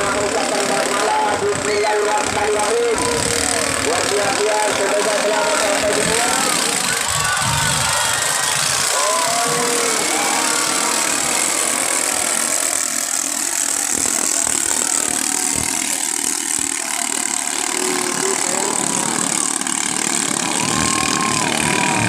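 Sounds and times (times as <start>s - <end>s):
boat engines droning: 0.0s - 22.0s.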